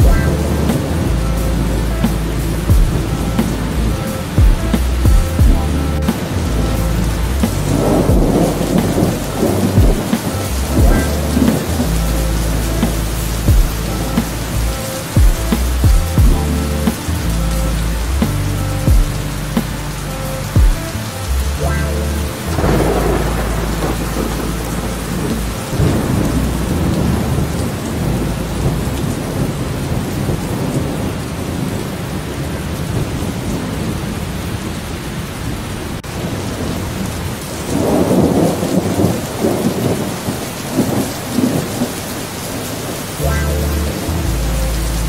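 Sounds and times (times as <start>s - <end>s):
thunder rumbling: 0.0s - 20.9s, 21.5s - 45.0s
steady rain: 0.0s - 45.0s.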